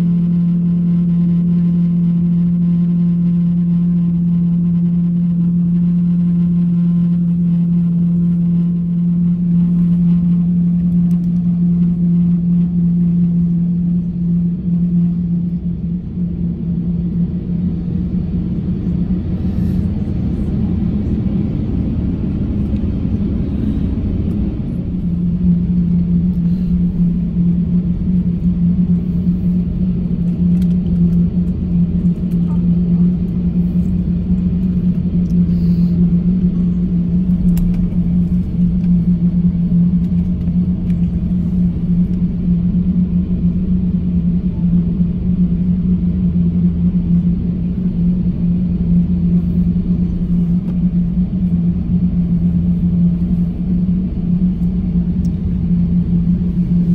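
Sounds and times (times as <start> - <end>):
aircraft cabin engine drone: 0.0 - 56.9
steady hum: 0.0 - 56.9.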